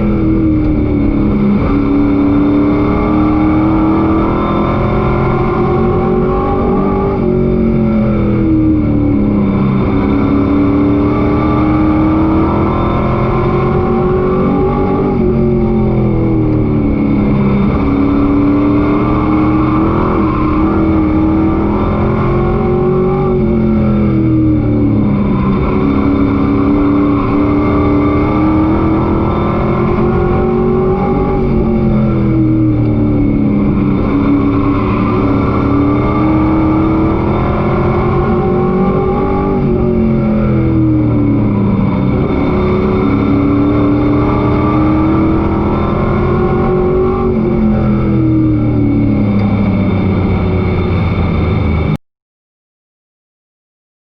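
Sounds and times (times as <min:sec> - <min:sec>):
race engine accelerating: 0:00.0 - 0:52.0
wind and road noise: 0:00.0 - 0:52.0.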